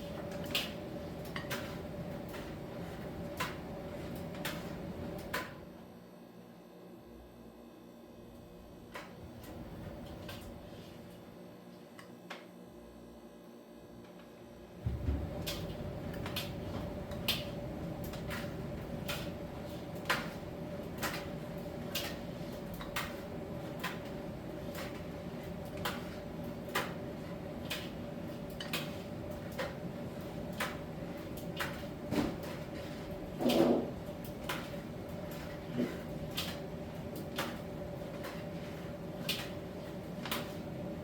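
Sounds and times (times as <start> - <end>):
dryer humming: 0.0 - 5.7, 8.4 - 11.2, 14.8 - 41.0.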